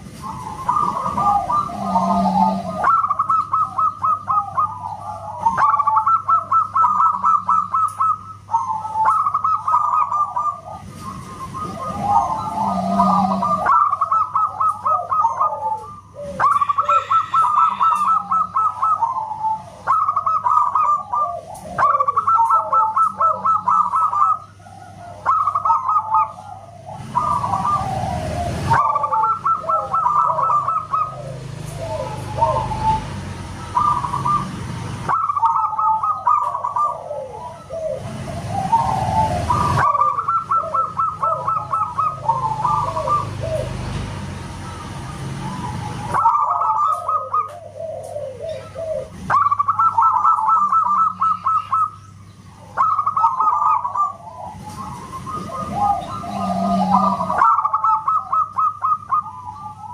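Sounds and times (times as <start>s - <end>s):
doves calling: 0.0s - 59.9s.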